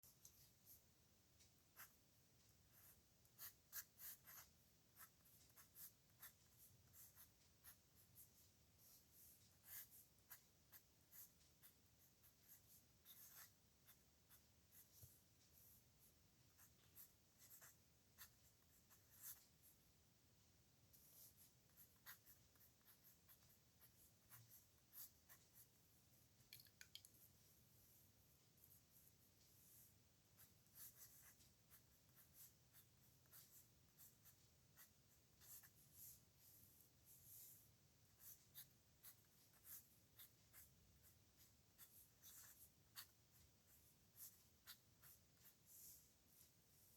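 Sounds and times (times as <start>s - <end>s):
pen scratching on paper: 2.7s - 19.7s, 21.0s - 25.7s, 28.6s - 46.9s.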